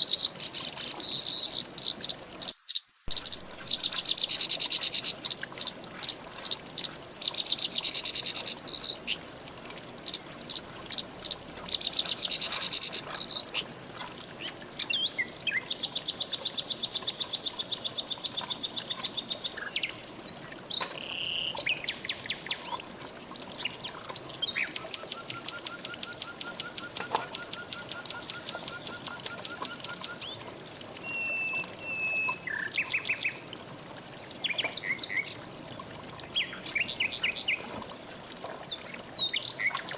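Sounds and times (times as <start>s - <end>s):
songbirds singing and trilling: 0.0s - 13.7s, 14.4s - 22.8s, 23.5s - 35.4s, 36.0s - 37.8s, 38.6s - 39.9s
flowing water hiss: 0.0s - 39.9s.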